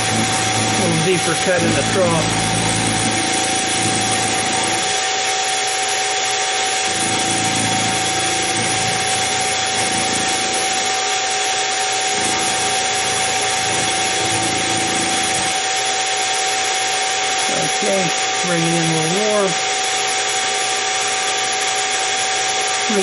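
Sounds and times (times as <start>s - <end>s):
end mill cutting metal: 0.0s - 23.0s
mill spindle whine: 0.0s - 23.0s.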